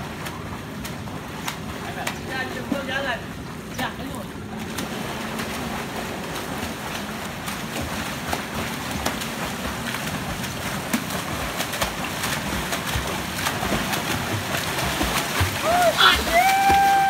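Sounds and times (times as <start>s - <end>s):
churning water: 0.0s - 17.0s
swimmers splashing slaps: 0.0s - 17.0s.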